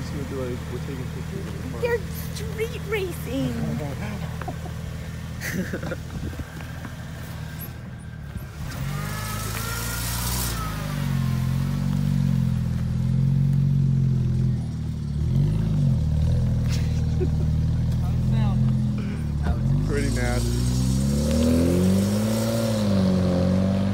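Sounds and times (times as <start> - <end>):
car engine and exhaust drone: 0.0 - 23.9.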